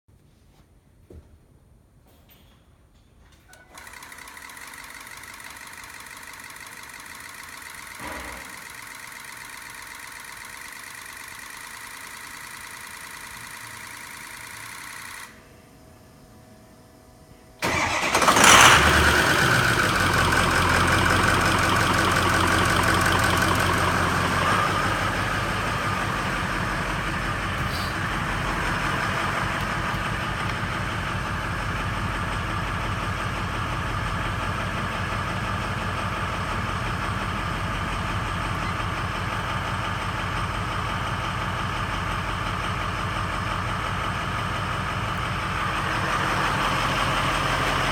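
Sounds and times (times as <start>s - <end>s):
diesel engine cranking and idling: 3.5s - 15.6s, 17.0s - 47.9s.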